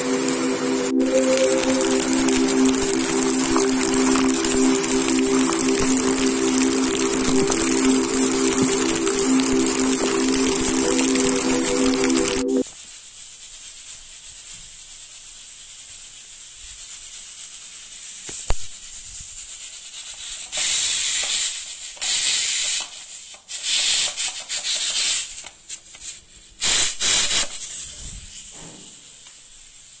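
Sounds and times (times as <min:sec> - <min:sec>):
faint steady steam hiss: 0:00.0 - 0:30.0.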